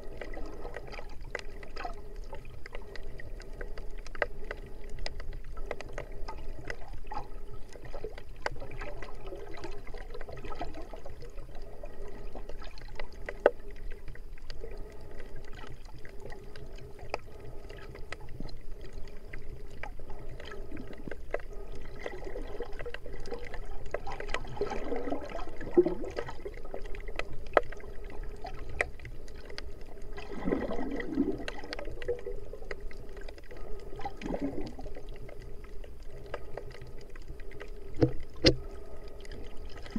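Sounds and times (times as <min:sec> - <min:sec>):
underwater watery wash: 0:00.0 - 0:39.9
water gurgling: 0:00.0 - 0:39.9.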